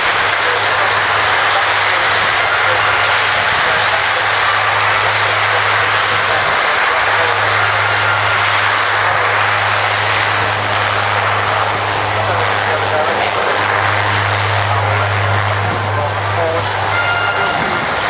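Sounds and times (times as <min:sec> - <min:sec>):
steady low drone: 0:00.0 - 0:18.0
turboprop engine and propeller roar: 0:00.0 - 0:18.0.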